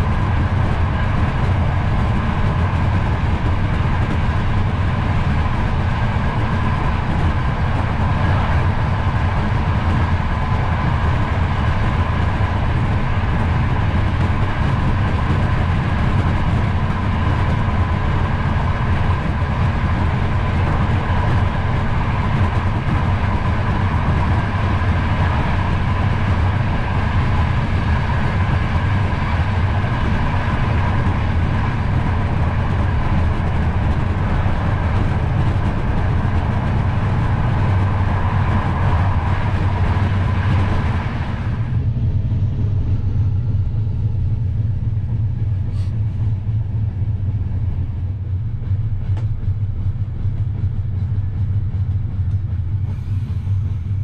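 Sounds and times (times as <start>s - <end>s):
rush of wheels on rails: 0.0s - 54.0s
train carriage rumble: 0.0s - 54.0s.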